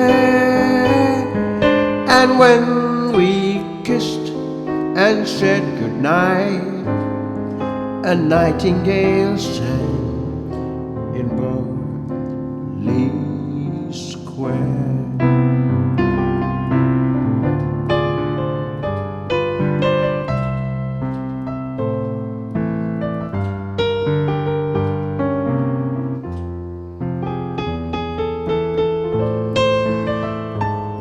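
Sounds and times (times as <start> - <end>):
solo piano: 0.0 - 31.0.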